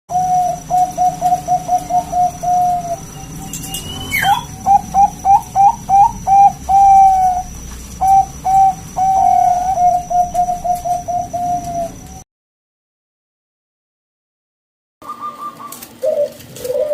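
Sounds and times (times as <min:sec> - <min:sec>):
dove cooing song: 0:00.1 - 0:12.2, 0:15.0 - 0:16.9.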